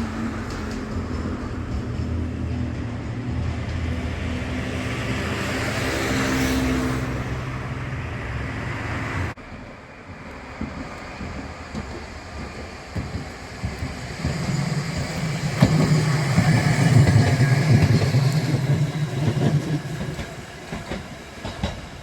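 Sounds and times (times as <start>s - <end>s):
street ambience: 0.0s - 22.0s.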